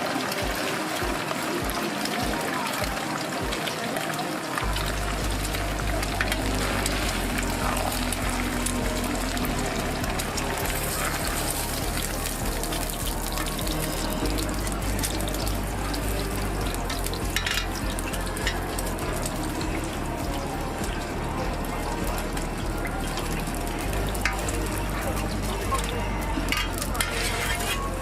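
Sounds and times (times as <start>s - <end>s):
food sizzling on a griddle: 0.0s - 28.0s
low hum: 4.6s - 28.0s.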